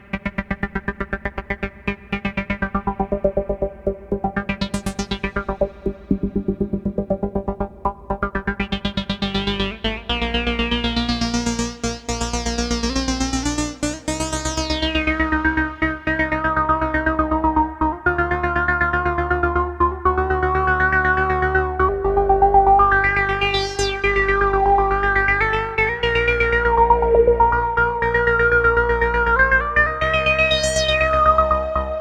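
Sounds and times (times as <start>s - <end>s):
analog synthesizer sequence: 0.0s - 32.0s.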